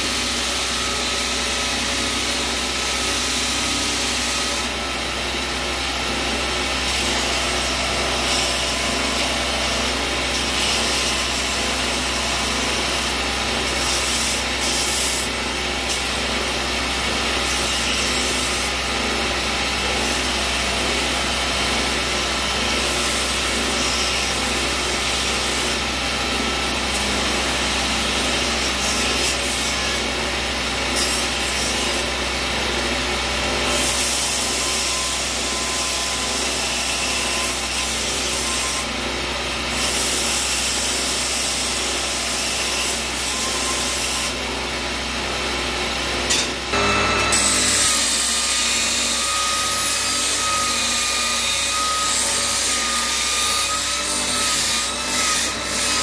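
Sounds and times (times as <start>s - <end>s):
blade grinding on belt: 0.0s - 32.4s, 33.5s - 39.0s, 39.7s - 44.4s, 46.3s - 56.0s
grinder motor hum: 0.0s - 56.0s.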